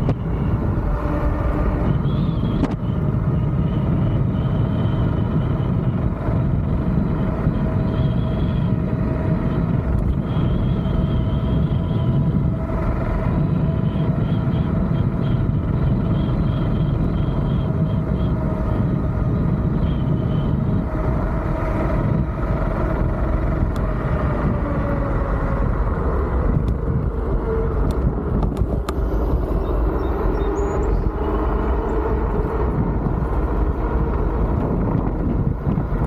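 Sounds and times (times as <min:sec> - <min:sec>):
electric motor whine: 0:00.0 - 0:36.0
wind rushing over microphone: 0:00.0 - 0:36.0.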